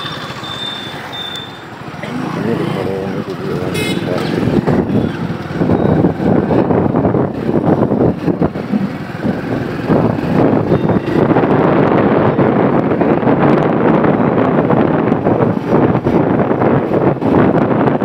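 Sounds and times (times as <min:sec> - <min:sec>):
motorbike engine: 0:00.0 - 0:16.1
road noise: 0:00.0 - 0:18.0
wind buffeting microphone: 0:01.8 - 0:18.0.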